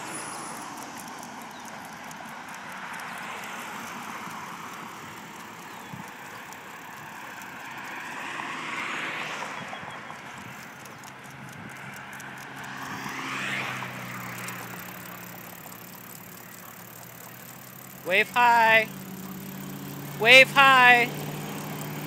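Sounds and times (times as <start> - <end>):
bicycle tyre noise: 0.0 - 22.0.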